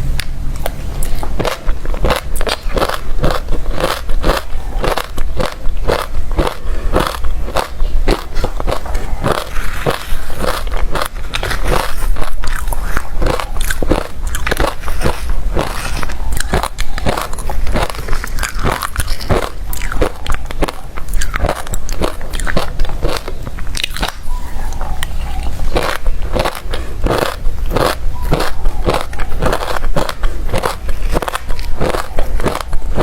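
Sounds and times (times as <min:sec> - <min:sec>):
chewing crushed ice: 0:00.2 - 0:33.0.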